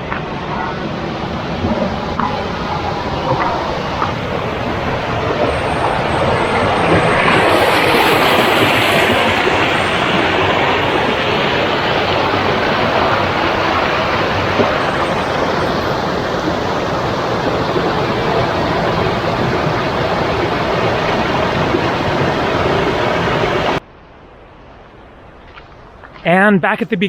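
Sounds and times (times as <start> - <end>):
water rushing over rapids: 0.0 - 23.8.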